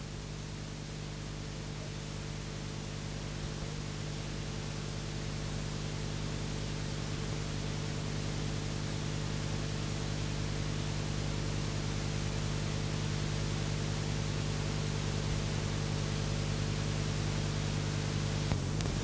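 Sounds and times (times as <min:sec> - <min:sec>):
low mains hum: 0:00.0 - 0:19.0.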